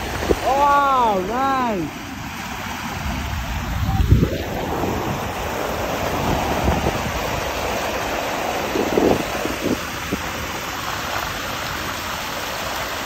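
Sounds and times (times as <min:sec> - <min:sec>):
waves splashing against rocks: 0:00.0 - 0:13.0
wind buffeting microphone: 0:01.9 - 0:12.5.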